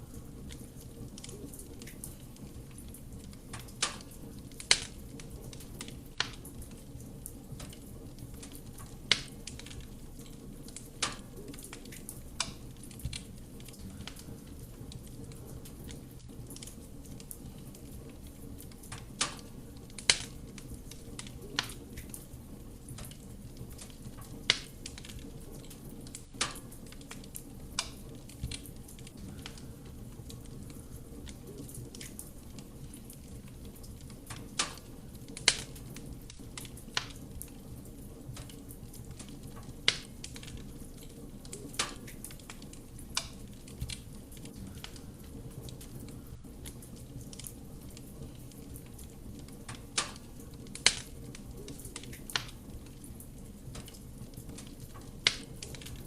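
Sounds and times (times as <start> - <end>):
low rush of flame: 0.0 - 56.0
wood crackling and popping: 0.0 - 56.0.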